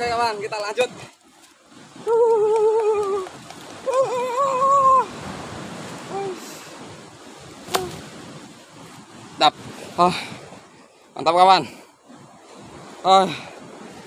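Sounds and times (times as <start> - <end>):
surf washing on rocks: 0.0 - 14.0.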